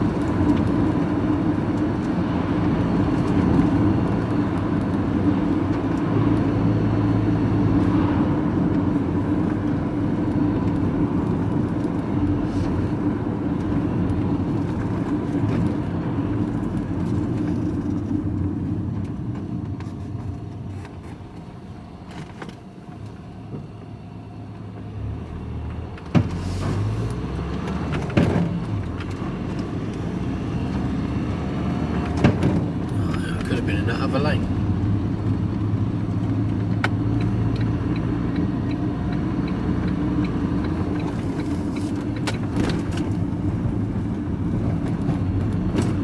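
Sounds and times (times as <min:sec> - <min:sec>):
vehicle engine and road rumble: 0:00.0 - 0:46.0.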